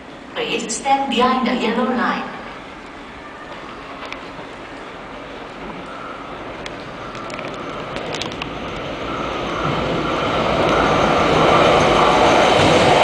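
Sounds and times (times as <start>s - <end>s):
faint whine: 0.0s - 12.4s
electric train approaching: 0.0s - 13.0s.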